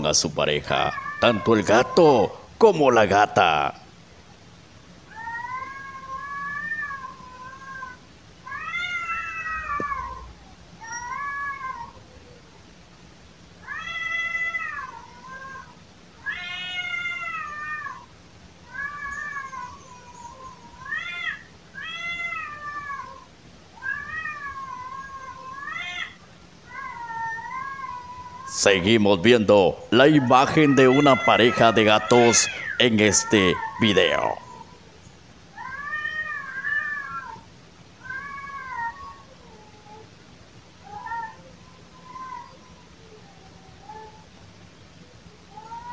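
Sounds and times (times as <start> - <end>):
cat yowling: 0.7 - 2.5, 5.1 - 12.5, 13.6 - 28.8, 29.9 - 34.9, 35.5 - 40.1, 40.8 - 44.4, 45.4 - 45.9.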